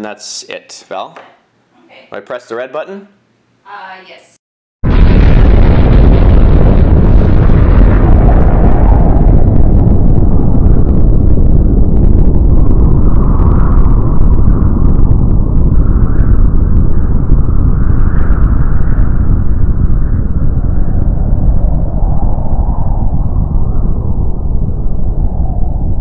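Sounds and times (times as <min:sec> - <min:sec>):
deep explosion rumble: 0:04.8 - 0:26.0
faint crackle: 0:04.9 - 0:26.0.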